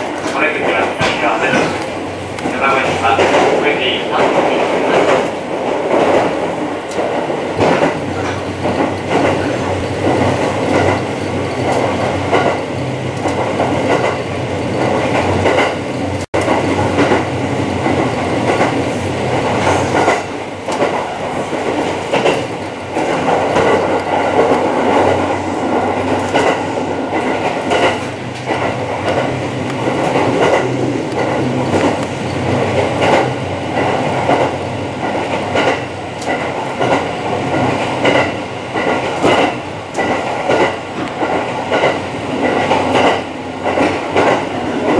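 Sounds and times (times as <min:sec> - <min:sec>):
train running noise: 0:00.0 - 0:44.9.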